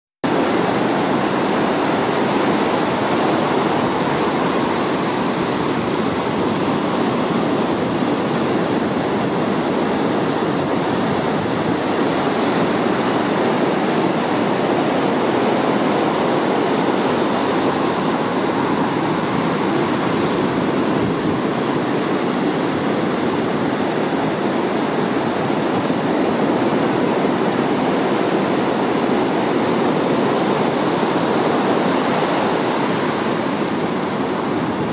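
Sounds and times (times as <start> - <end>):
ocean surf breaking: 0.2 - 34.9.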